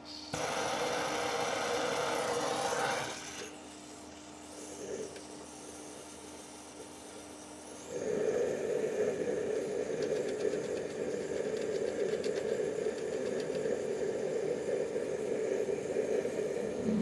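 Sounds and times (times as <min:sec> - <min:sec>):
gas burner rushing: 0:00.0 - 0:03.6, 0:04.5 - 0:17.0.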